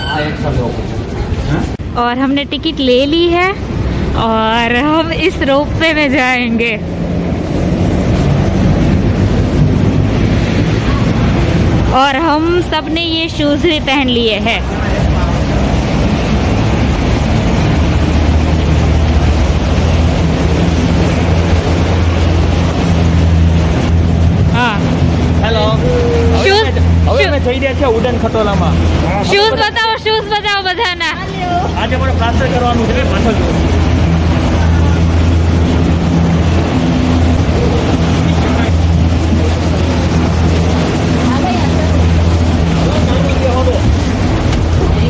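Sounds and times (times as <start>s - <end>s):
lift machinery humming: 2.8s - 45.0s.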